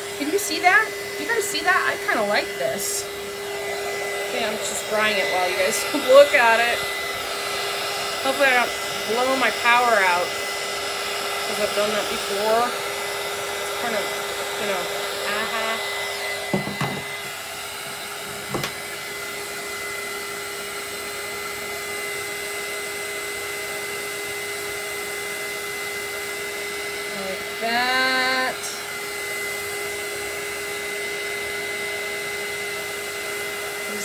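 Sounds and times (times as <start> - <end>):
heat tool fan whirring: 0.0 - 34.0.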